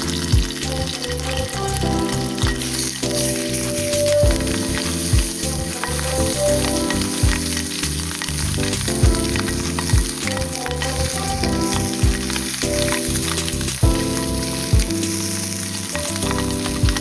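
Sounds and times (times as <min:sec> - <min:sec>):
background music with slow beat: 0:00.0 - 0:17.0
meat sizzling over a campfire: 0:00.0 - 0:17.0.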